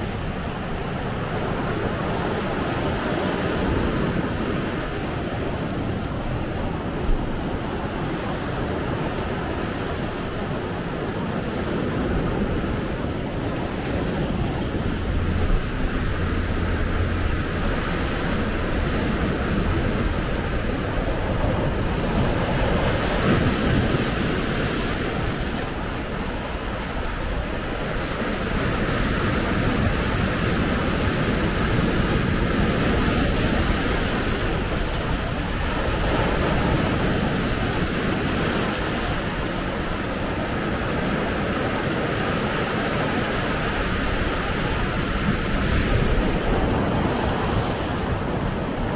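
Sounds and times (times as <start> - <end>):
waves breaking on rocky shore: 0.0 - 48.9.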